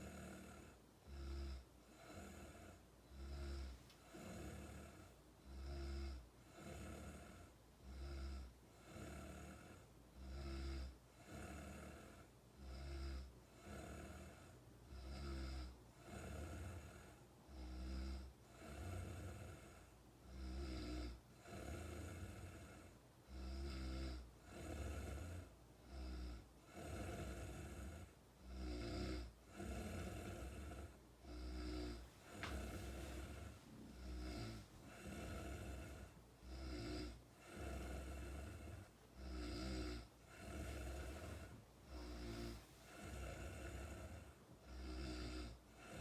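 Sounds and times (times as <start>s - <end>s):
person snoring: 0.0s - 46.0s.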